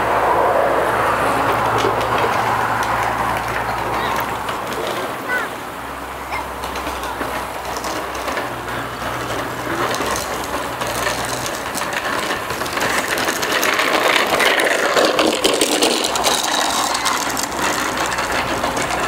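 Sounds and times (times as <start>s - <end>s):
bicycle wheels rolling on gravel: 0.0s - 19.0s.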